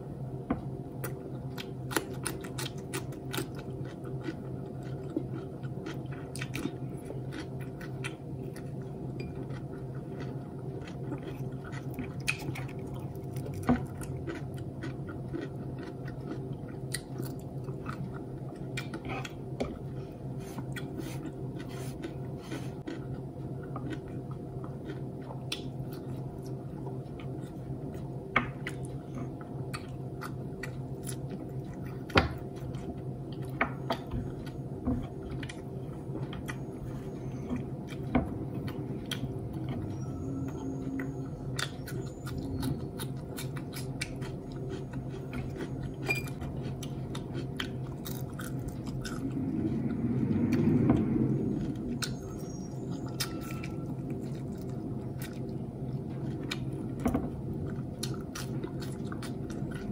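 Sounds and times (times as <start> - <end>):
steady low hum: 0.0 - 59.9
person chewing: 1.0 - 59.9.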